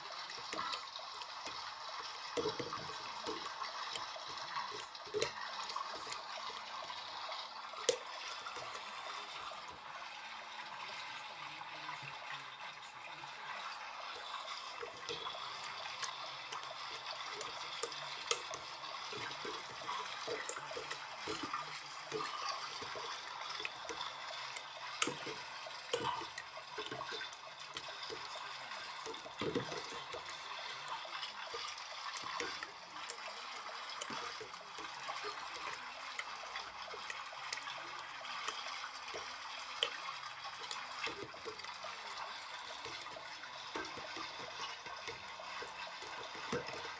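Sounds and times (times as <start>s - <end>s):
small splashes and ticks: 0.0s - 46.9s
washing machine water sloshing: 0.0s - 46.9s.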